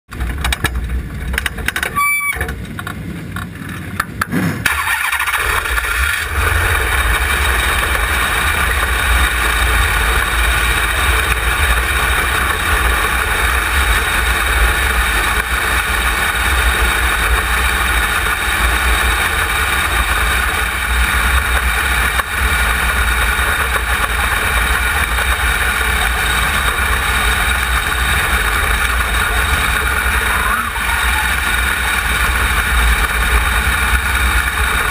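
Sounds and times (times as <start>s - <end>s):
race car engine rumble: 0.1s - 34.9s.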